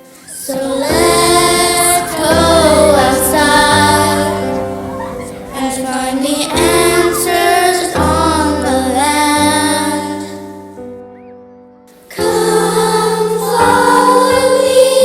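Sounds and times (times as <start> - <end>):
song with sung vocal: 0.0 - 10.8, 12.0 - 15.0.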